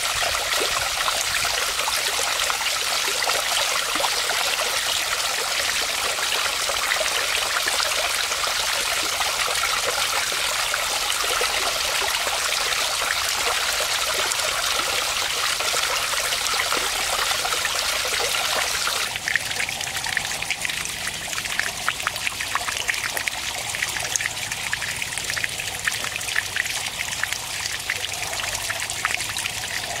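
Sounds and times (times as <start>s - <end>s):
water drips and splashes: 0.0s - 30.0s
water running over rock: 0.0s - 30.0s
water trickling into a pond: 0.0s - 30.0s.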